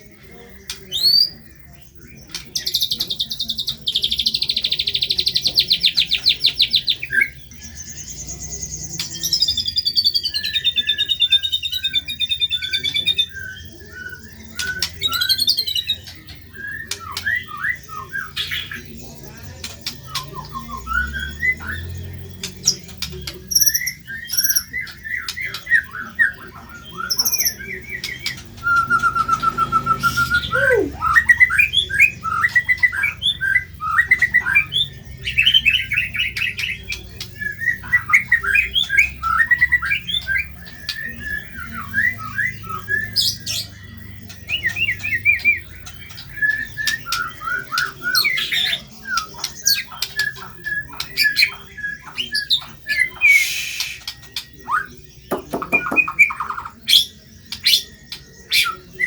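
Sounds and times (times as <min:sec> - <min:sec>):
songbird singing: 0:00.0 - 0:59.0
bird rapid trill: 0:00.6 - 0:59.0.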